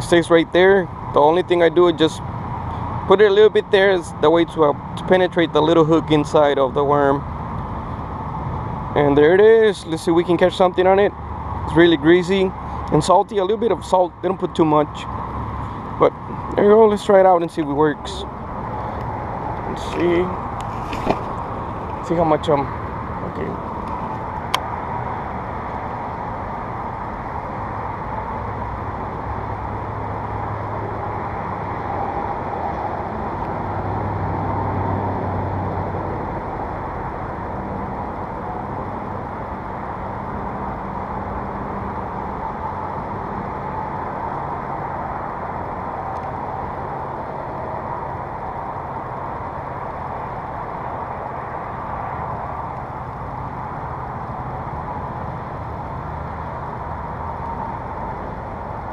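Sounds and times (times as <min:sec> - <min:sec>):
road noise: 0:00.0 - 0:58.9
vehicle engine hum: 0:00.0 - 0:58.9.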